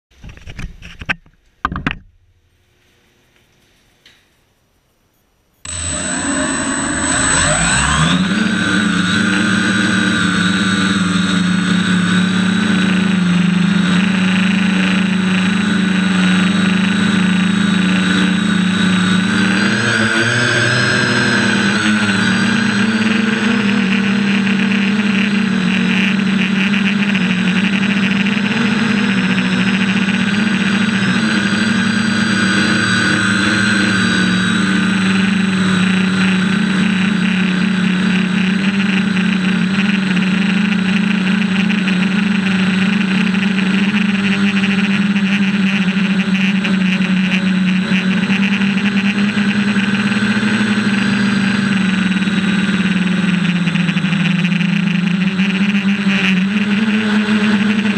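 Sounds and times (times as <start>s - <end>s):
quadcopter motors buzzing: 5.6s - 57.9s.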